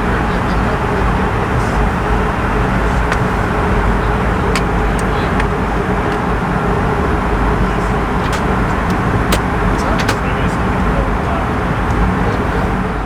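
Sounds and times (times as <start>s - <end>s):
airflow and jet engines rushing: 0.0s - 13.0s.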